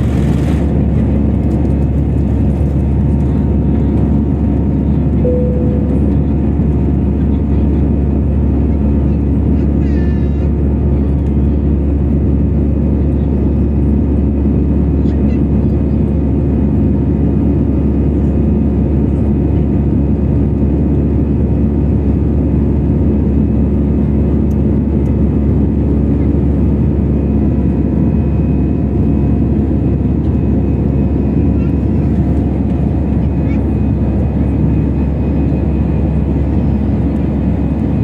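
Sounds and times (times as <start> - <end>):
airliner cabin drone: 0.0 - 38.0.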